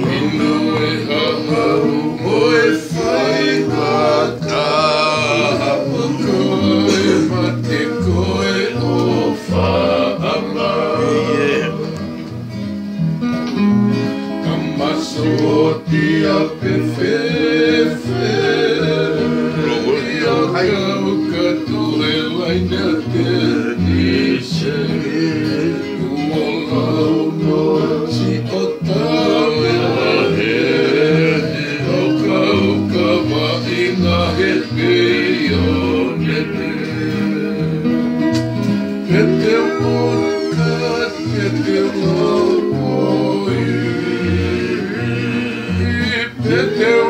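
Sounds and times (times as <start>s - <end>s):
men singing: 0.0s - 12.3s, 14.1s - 47.0s
acoustic guitars playing chords: 0.0s - 47.0s.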